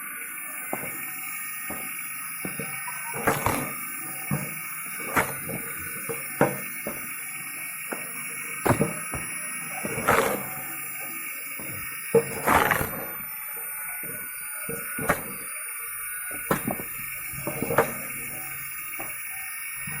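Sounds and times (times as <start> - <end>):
log splitter motor humming: 0.0 - 20.0
wood knocking and cracking: 0.4 - 19.3.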